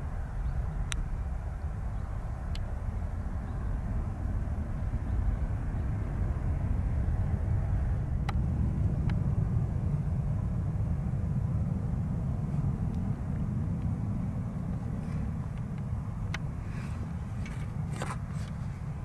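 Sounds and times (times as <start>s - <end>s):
jet engines rumbling while taxiing: 0.0s - 19.0s.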